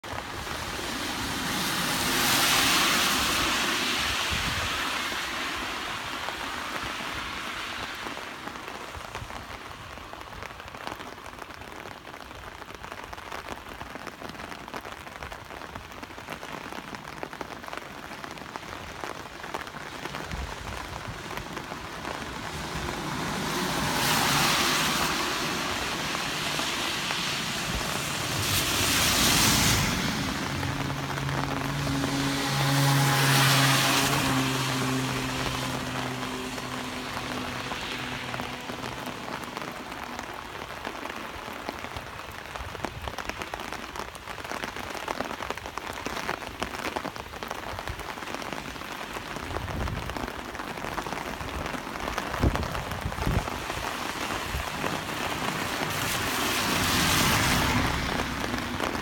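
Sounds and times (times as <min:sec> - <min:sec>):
cars passing on wet road: 0:00.0 - 0:59.0
rain on paved road: 0:00.0 - 0:59.0.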